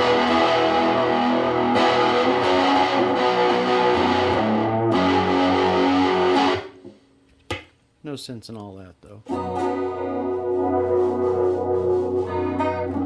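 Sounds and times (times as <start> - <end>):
distorted electric guitar chords: 0.0 - 7.0, 9.3 - 13.0.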